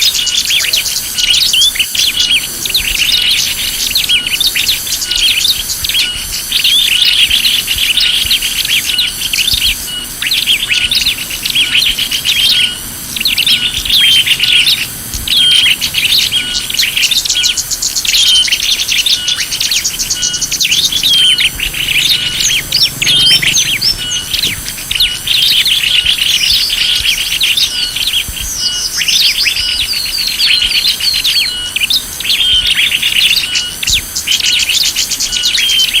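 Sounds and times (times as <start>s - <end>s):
fast high pulsing: 0.0s - 36.0s
songbirds chirping and trilling: 0.0s - 36.0s.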